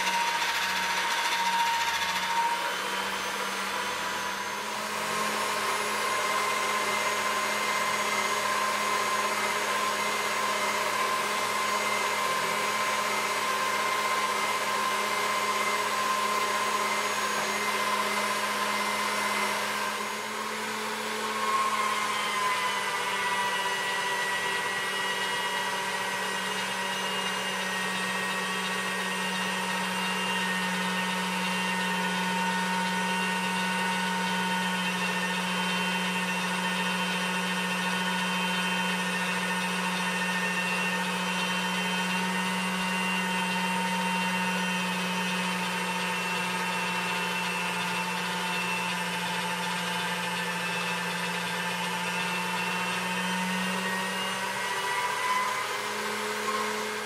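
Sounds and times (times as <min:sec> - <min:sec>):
pasta machine motor humming: 0:00.0 - 0:57.0.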